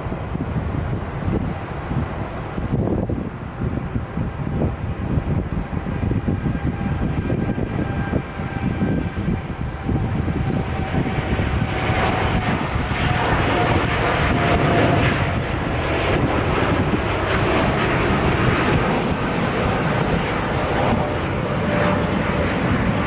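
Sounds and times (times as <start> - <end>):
faint engine whine: 0.0 - 23.0
jet engines running: 0.0 - 23.0.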